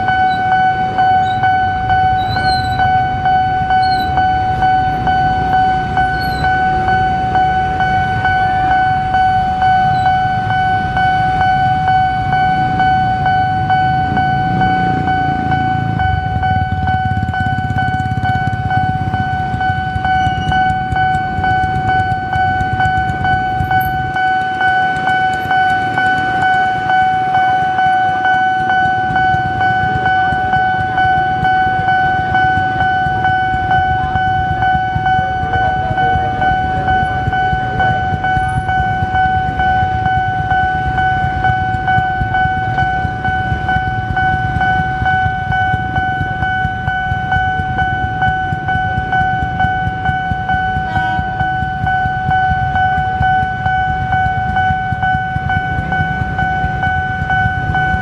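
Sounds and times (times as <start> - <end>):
crossing alarm steady high tone: 0.0 - 58.0
motorcycle engines idling: 0.0 - 58.0.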